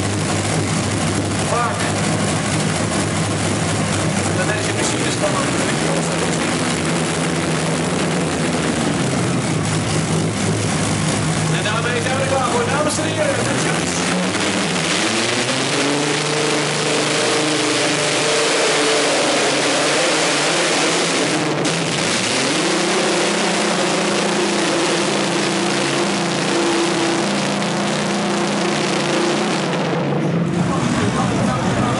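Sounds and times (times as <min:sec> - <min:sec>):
aero engines at full power: 0:00.0 - 0:31.9.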